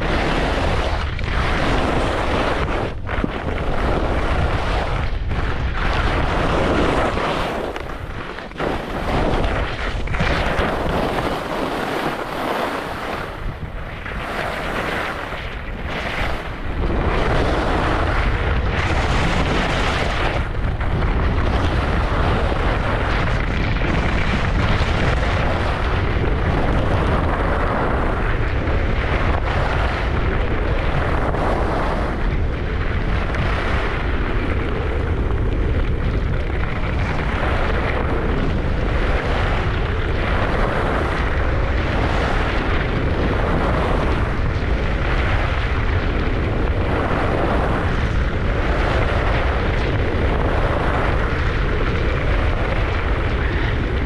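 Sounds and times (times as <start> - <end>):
skis scraping on snow: 0.0 - 28.5, 33.1 - 54.0
wind buffeting microphone: 0.0 - 54.0.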